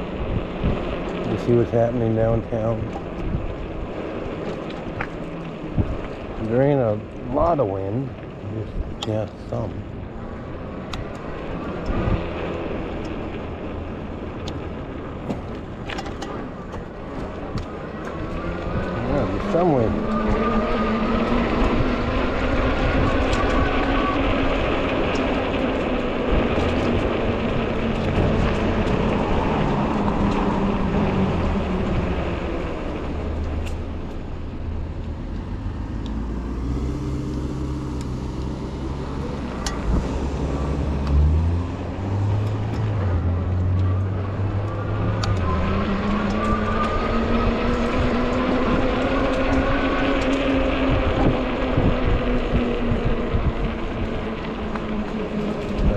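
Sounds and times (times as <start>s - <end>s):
road rumble: 0.0s - 55.9s
wind: 0.0s - 55.9s.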